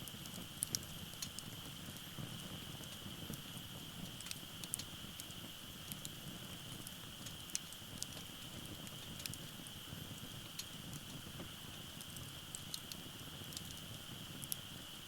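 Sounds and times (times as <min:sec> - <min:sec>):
firewood popping and crackling: 0:00.0 - 0:14.8
rush of flames: 0:00.0 - 0:14.8.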